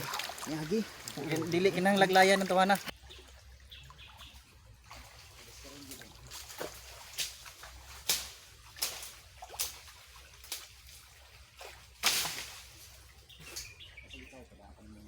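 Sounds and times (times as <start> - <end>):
water splashing: 0.0 - 13.6.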